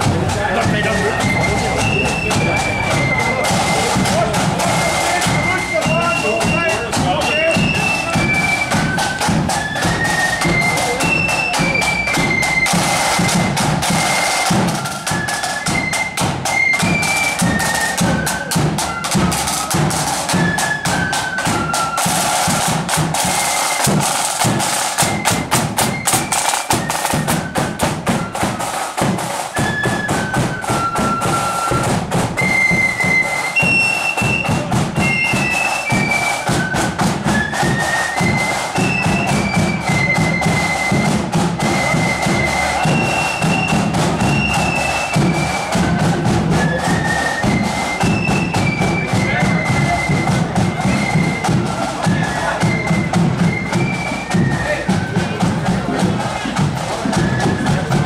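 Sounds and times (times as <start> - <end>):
flute melody: 0.0 - 58.0
side drums: 0.0 - 58.0.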